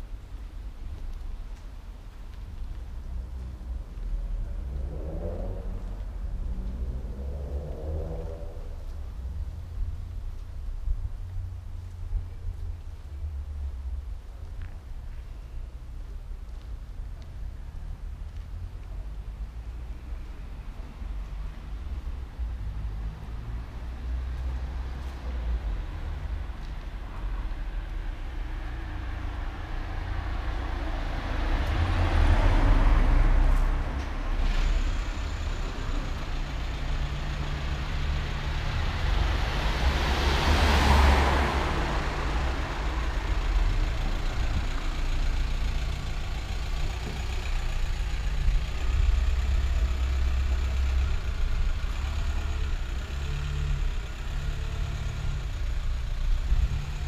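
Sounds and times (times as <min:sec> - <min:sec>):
cars passing by: 0:00.0 - 0:57.0.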